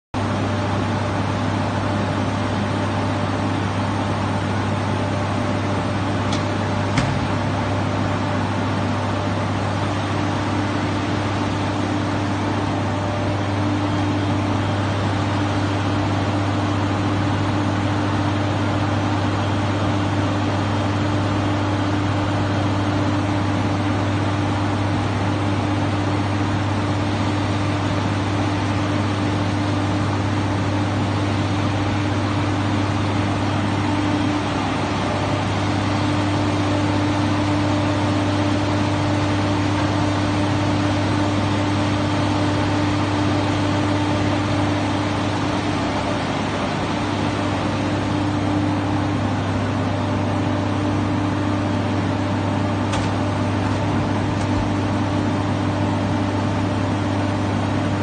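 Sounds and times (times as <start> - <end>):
machine drone with low hum: 0.2 - 58.0.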